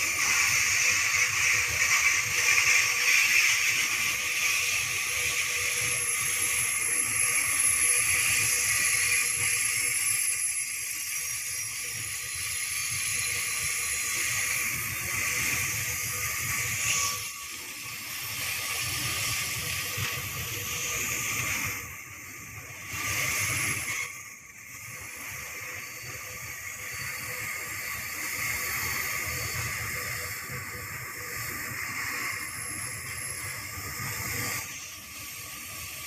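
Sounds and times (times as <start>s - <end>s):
thin steady tone: 0.0s - 36.0s.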